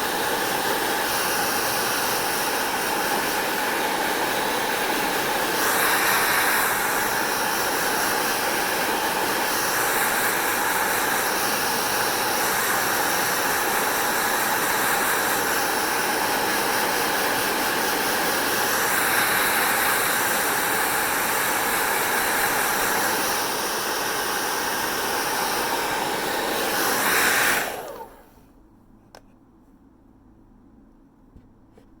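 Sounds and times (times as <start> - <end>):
hair dryer blowing: 0.0 - 28.4.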